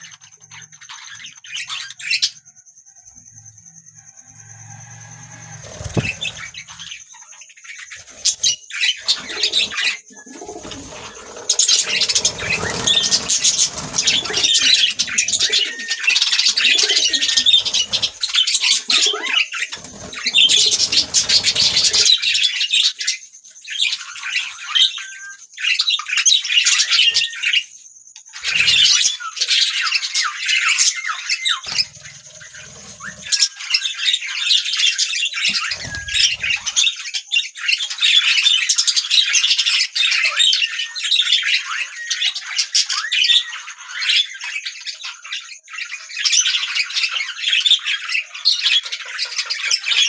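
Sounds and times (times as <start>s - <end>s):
budgerigars chirping and warbling: 0.0s - 2.5s, 5.4s - 50.0s.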